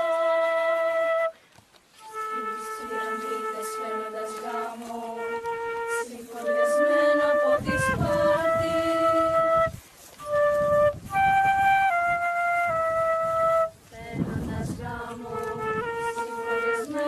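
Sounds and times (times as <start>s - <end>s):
flute playing slow melody: 0.0s - 14.0s, 15.2s - 17.0s.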